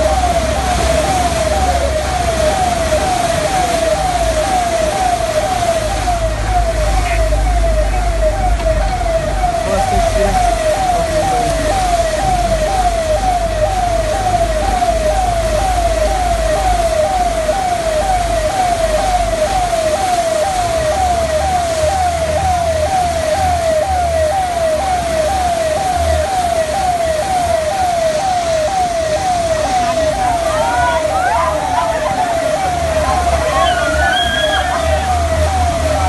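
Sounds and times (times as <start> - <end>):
electronic siren yelping: 0.0 - 36.0
rushing floodwater: 0.0 - 36.0.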